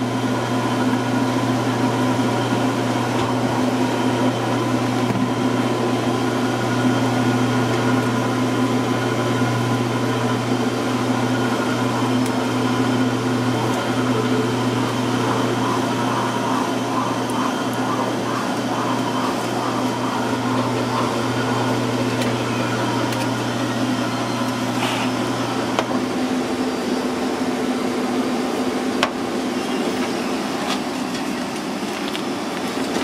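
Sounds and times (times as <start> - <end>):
deeper hum: 0.0 - 31.6
kitchen machinery whirring: 0.0 - 33.0.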